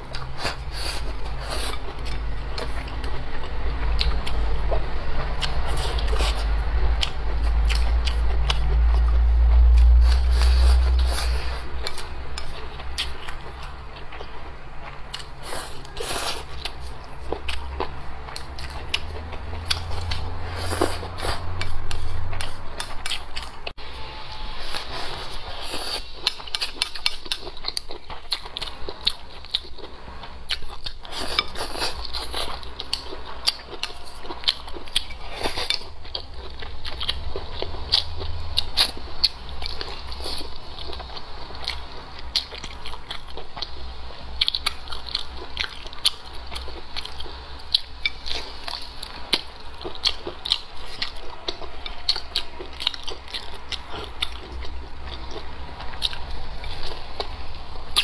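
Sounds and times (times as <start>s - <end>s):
person chewing food: 0.0s - 23.8s, 24.6s - 58.0s.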